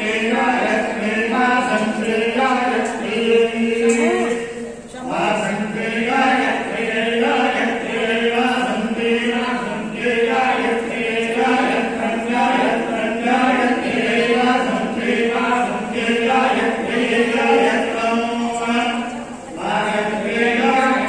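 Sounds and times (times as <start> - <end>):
voices chanting a hymn in unison: 0.0 - 21.0.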